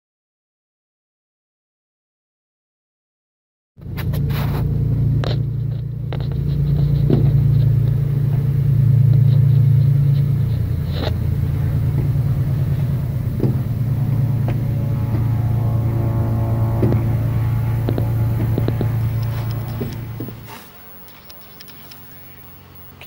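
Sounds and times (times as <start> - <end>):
low mechanical hum: 3.8 - 23.0.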